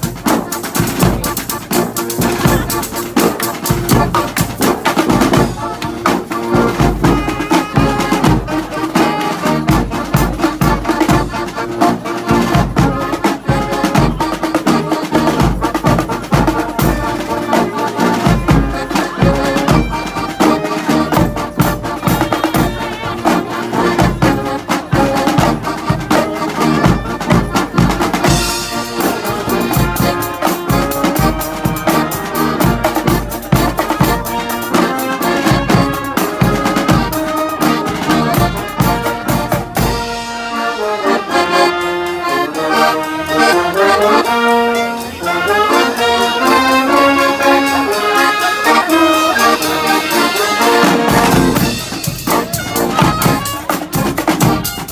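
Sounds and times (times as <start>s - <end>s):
brass horns playing a tune: 0.0s - 54.9s
driving drum beat: 0.0s - 54.9s.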